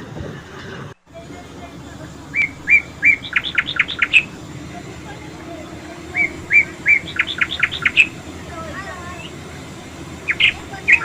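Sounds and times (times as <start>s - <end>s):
songbird singing: 1.0s - 11.0s.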